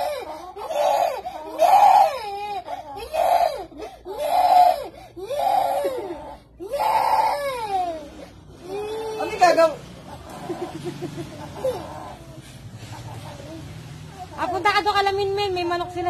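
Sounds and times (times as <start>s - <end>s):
small child crying: 0.0s - 10.8s, 11.5s - 14.8s.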